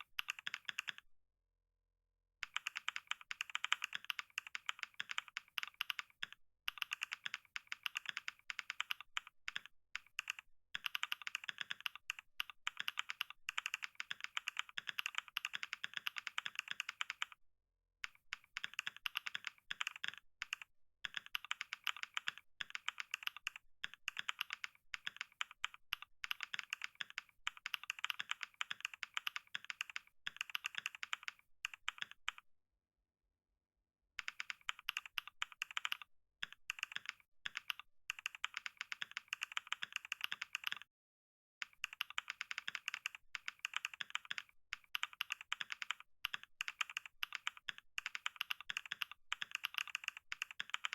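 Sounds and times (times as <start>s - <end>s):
fast typing on computer keyboard: 0.0s - 1.0s, 2.4s - 17.4s, 18.0s - 32.4s, 34.2s - 40.9s, 41.6s - 50.9s.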